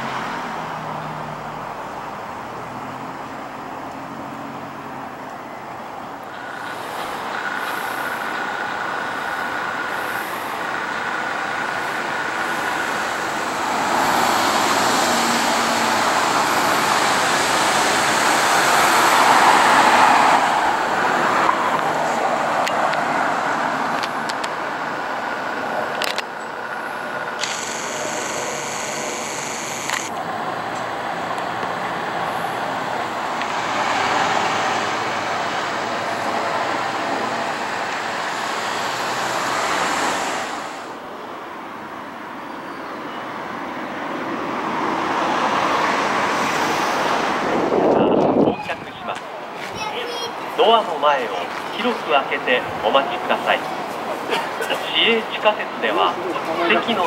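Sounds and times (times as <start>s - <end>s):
vehicle hum with high whine: 0.0s - 57.0s.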